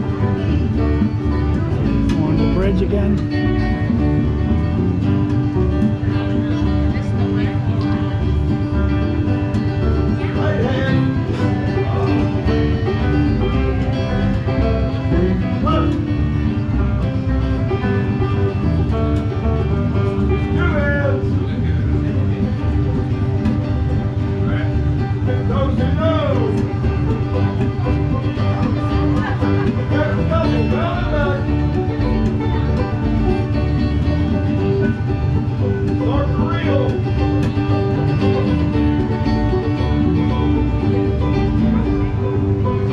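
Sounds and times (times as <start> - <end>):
bluegrass music on plucked strings: 0.0 - 42.9
steady bass beat: 0.0 - 42.9.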